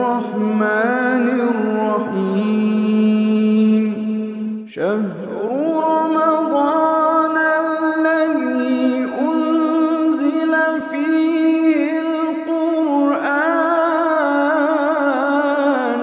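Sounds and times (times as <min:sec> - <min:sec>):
person chanting devotional song: 0:00.0 - 0:16.0.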